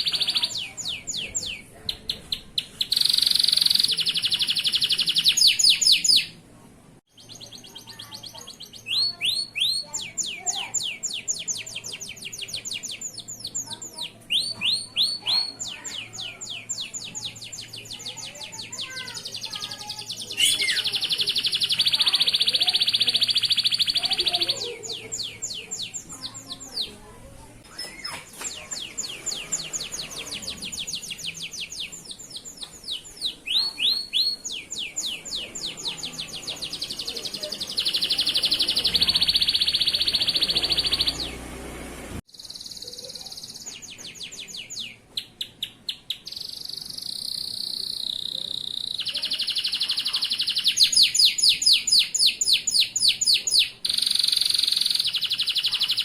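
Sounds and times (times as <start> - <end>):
canary singing trills: 0.0 - 6.4, 7.1 - 56.0.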